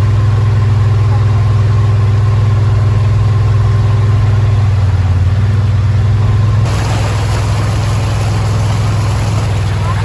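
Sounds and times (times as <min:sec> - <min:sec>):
vehicle engine low hum: 0:00.0 - 0:10.0.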